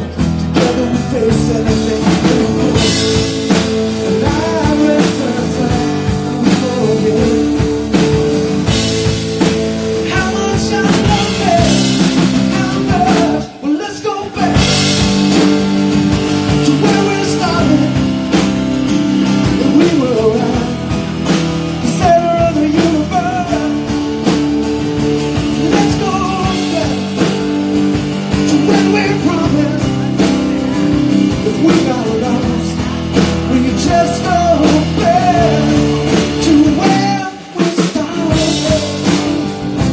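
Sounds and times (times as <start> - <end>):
live rock band playing: 0.0 - 39.9
man singing: 0.0 - 39.9.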